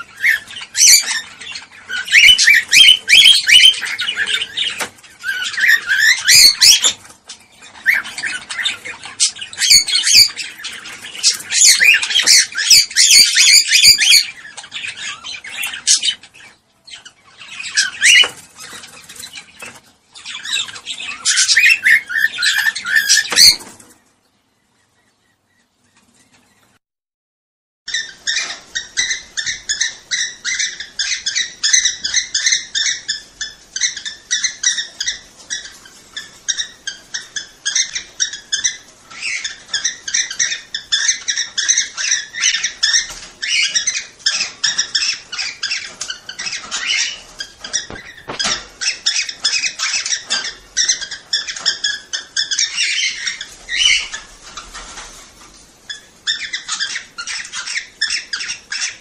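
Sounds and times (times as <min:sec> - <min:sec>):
cockatiels chirping and whistling: 0:00.0 - 0:23.9, 0:27.9 - 0:55.3, 0:55.9 - 0:59.0.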